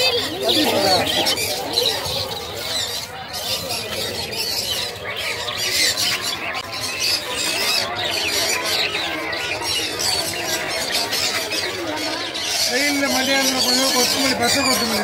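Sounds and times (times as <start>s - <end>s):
caged birds chirping and squawking: 0.0s - 15.0s.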